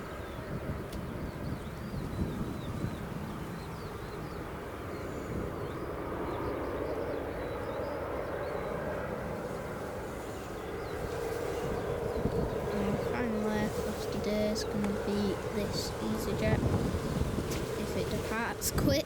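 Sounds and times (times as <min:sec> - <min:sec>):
distant jet engines rumbling: 0:00.0 - 0:19.0.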